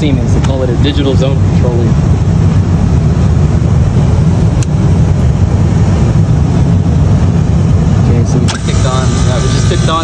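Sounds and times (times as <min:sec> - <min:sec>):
hvac unit low rumble: 0:00.0 - 0:10.0.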